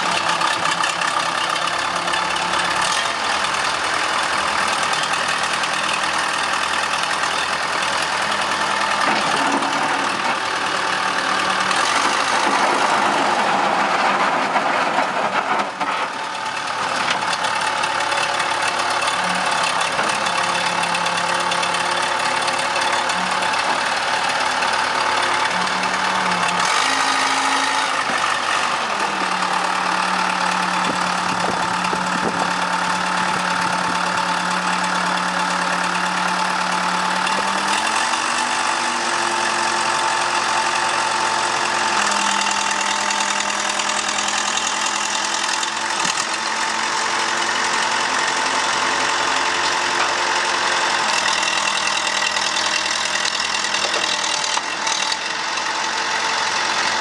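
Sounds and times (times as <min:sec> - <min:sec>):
backhoe engine revving: 0:00.0 - 0:57.0.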